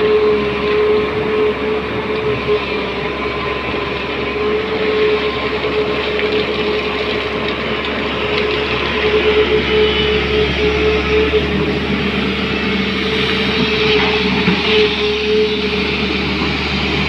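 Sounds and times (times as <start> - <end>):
excavator diesel engine running: 0.0 - 17.0
steady whine: 0.0 - 17.0.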